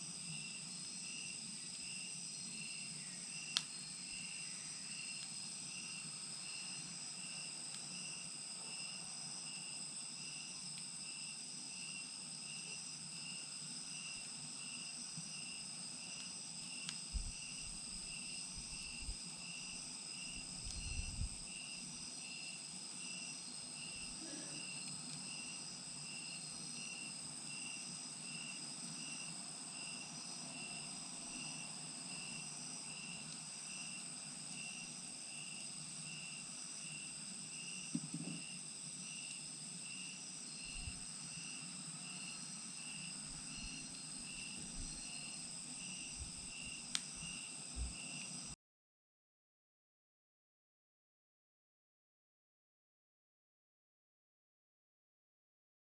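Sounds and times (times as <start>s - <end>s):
crickets and insects chirping: 0.0s - 48.6s.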